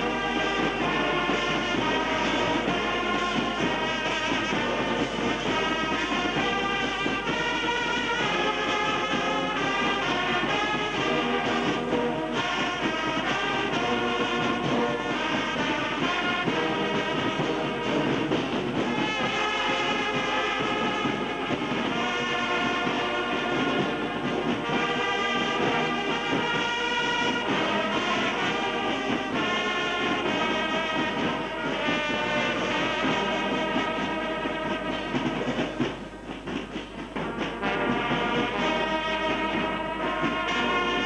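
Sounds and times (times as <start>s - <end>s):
brass band playing: 0.0s - 41.0s.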